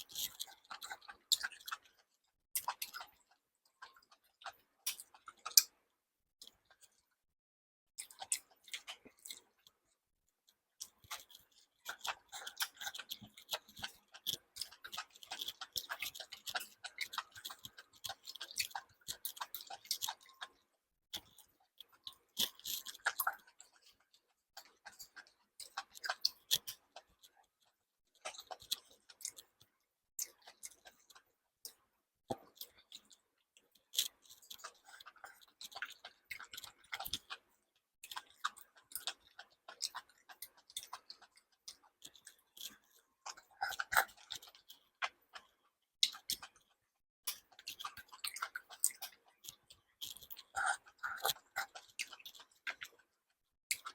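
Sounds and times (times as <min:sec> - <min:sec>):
chewing with wet mouth clicks: 0:00.0 - 0:07.1, 0:08.0 - 0:53.9.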